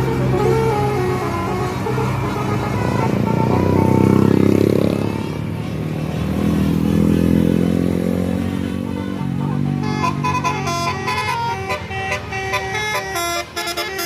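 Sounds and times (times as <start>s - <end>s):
bus horn playing a tune: 0.0s - 5.8s, 8.3s - 14.0s
vehicle passing close: 0.0s - 14.0s.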